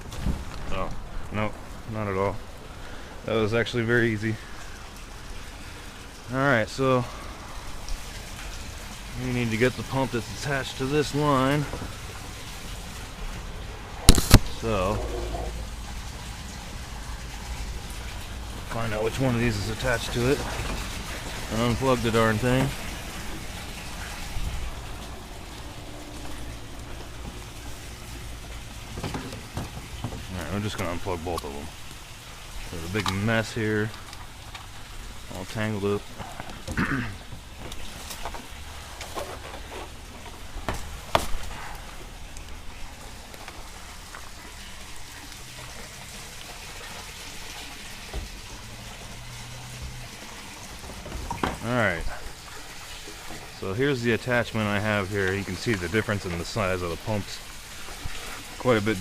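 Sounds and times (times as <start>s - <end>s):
low pump hum: 0.0s - 59.0s
water splashing and trickling: 0.0s - 59.0s.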